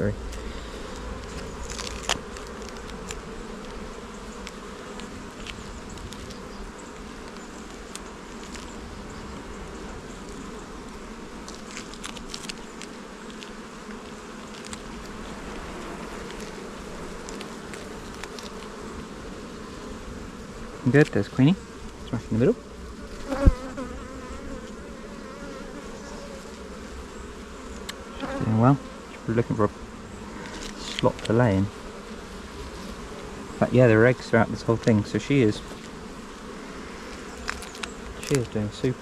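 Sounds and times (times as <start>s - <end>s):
bees buzzing: 0.0s - 39.0s.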